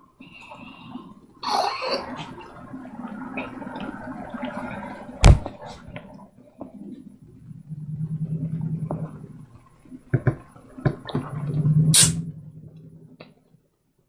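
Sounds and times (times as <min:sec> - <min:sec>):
low hum: 0:00.4 - 0:13.7.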